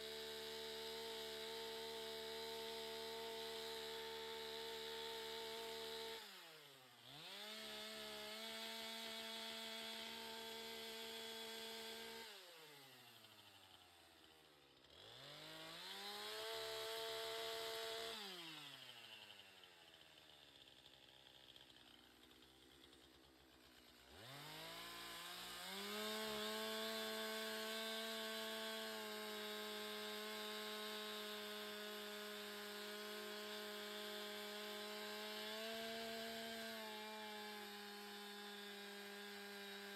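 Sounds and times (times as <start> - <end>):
chainsaw revving: 0.1 - 13.5, 14.8 - 39.9.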